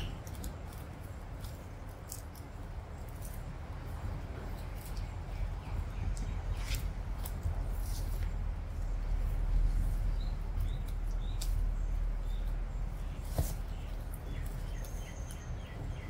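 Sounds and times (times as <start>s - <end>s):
small birds chirping: 0.0s - 16.0s
tortoises crunching grass: 0.0s - 16.0s
low rumble: 2.5s - 16.0s.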